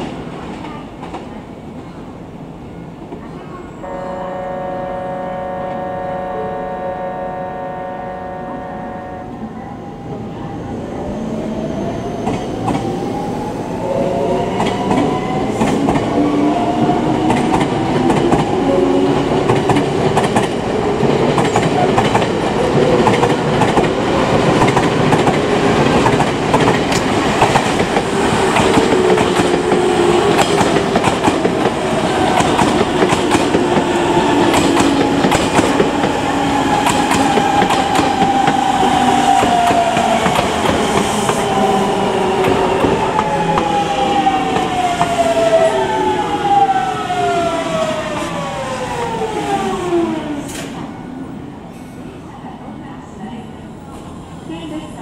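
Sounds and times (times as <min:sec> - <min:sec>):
electric train rumble: 0:03.8 - 0:51.4.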